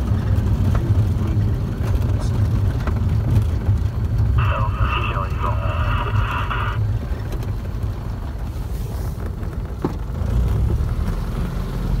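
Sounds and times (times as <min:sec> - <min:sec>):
aircraft engine low rumble: 0:00.0 - 0:12.0.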